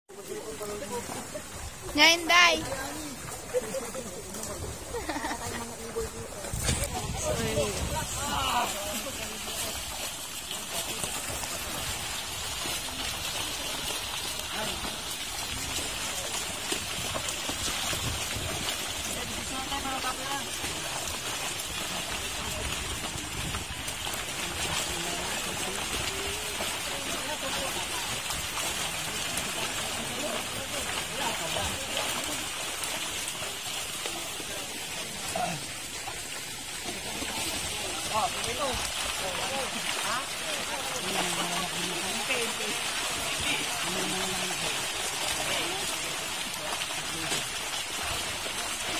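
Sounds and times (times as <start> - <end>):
fish splashing in net: 3.0 - 48.9.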